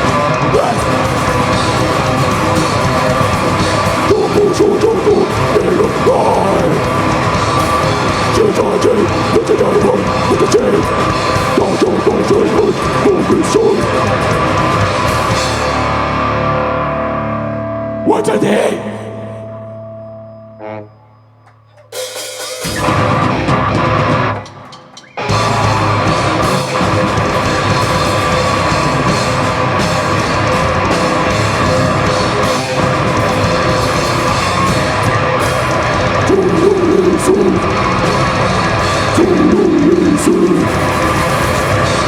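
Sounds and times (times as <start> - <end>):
rock band playing: 0.0 - 20.9, 21.8 - 42.0.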